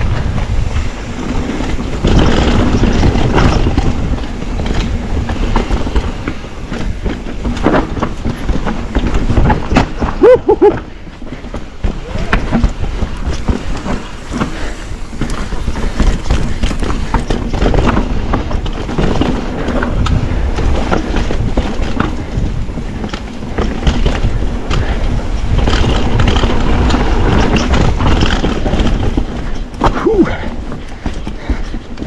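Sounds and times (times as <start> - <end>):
bike knocks and rattles: 0.0 - 32.0
bike tyres on gravel: 0.0 - 32.0
wind on microphone: 0.0 - 32.0.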